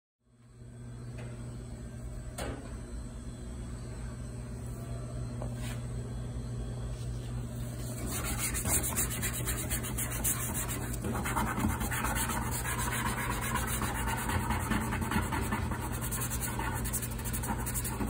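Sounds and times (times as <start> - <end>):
steady low hum: 0.2 - 18.0.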